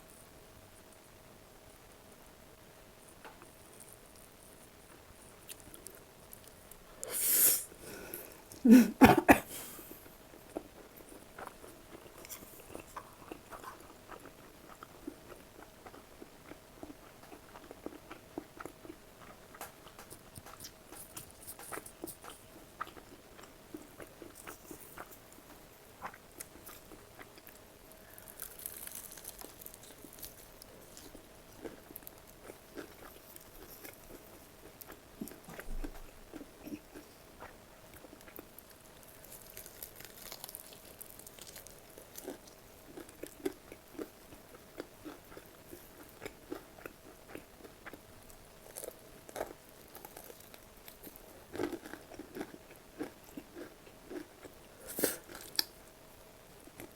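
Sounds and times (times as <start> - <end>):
faint steady hum: 0.0 - 56.9
crunchy chewing: 9.9 - 55.8.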